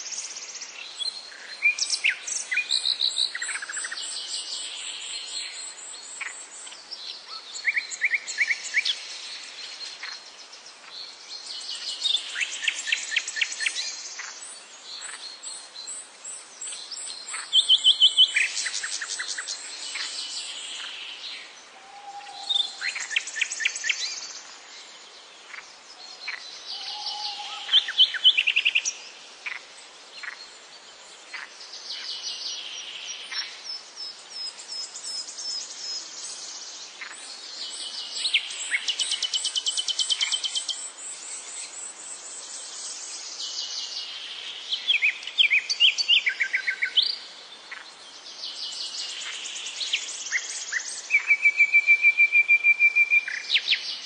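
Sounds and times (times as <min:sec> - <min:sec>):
songbirds chirping and trilling: 0:00.0 - 0:54.0
steady high hiss: 0:00.0 - 0:54.0.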